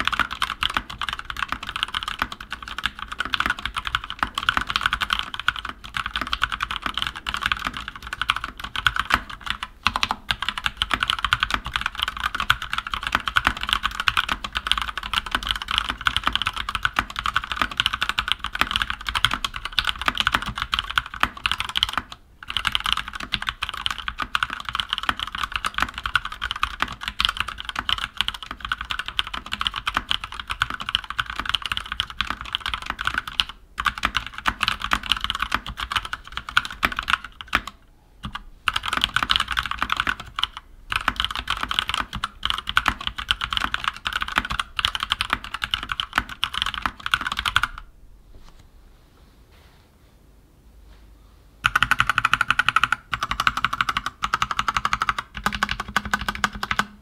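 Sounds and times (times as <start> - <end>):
fast mechanical keyboard typing: 0.0 - 47.9, 51.6 - 57.0.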